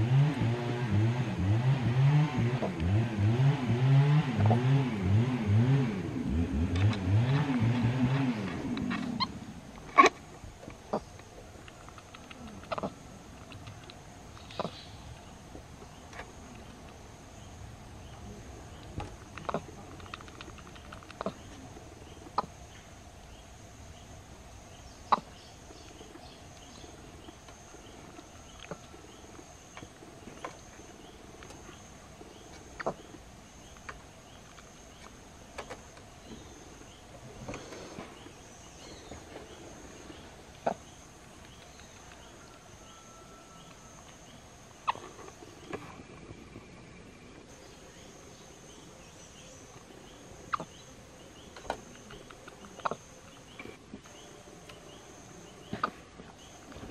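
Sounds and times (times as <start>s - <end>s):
insects droning: 0.0s - 56.9s
faint chirp: 10.9s - 56.9s.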